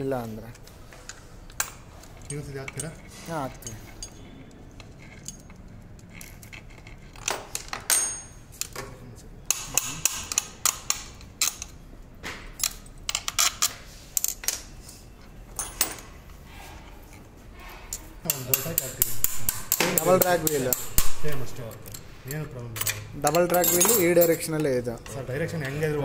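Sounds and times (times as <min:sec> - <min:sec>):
metal parts clinking and knocking: 0:00.4 - 0:08.9, 0:09.5 - 0:14.8, 0:15.4 - 0:16.3, 0:17.6 - 0:25.8.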